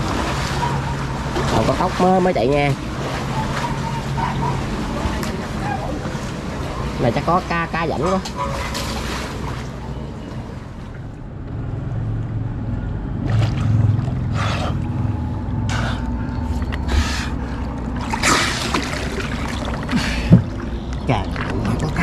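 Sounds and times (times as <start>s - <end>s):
water slapping against boat: 0.0s - 11.2s, 13.2s - 22.0s
boat motor humming: 0.0s - 22.0s.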